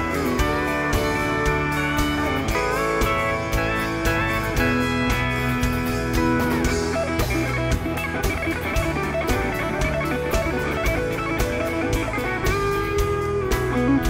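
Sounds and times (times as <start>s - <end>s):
bass: 0.0s - 14.0s
electric guitar lead: 0.0s - 14.0s
steady drum beat: 0.0s - 14.0s.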